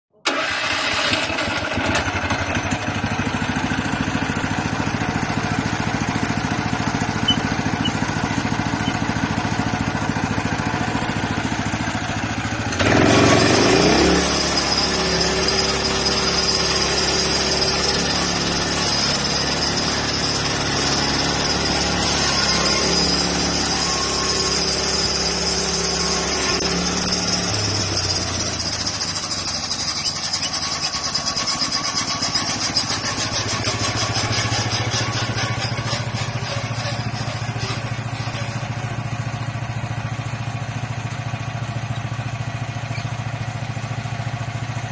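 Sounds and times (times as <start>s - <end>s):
small gasoline engine running: 0.2s - 44.9s.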